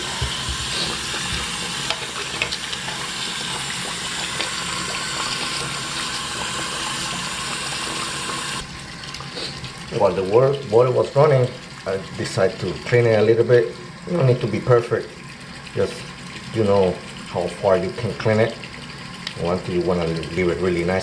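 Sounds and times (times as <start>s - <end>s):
tap water running into sink: 0.0s - 21.0s.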